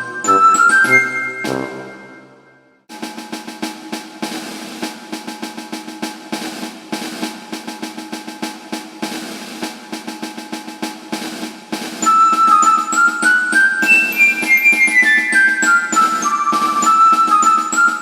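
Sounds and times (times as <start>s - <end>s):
snare drum roll: 0.0s - 2.2s, 2.9s - 18.0s.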